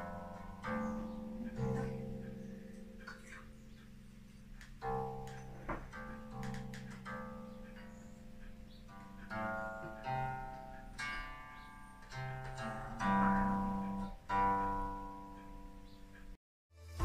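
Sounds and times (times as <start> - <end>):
plucked zither notes: 0.0 - 16.4.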